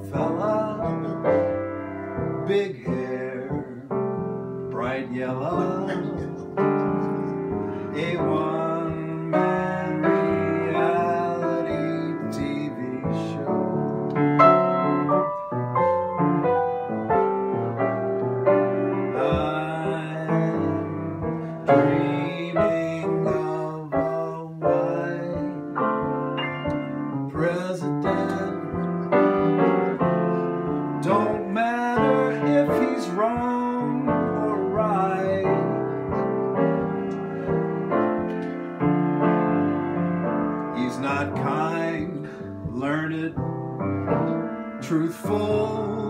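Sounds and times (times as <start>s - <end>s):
man singing: 0.0s - 15.6s, 18.6s - 38.6s, 39.2s - 46.0s
piano playing: 0.0s - 46.0s.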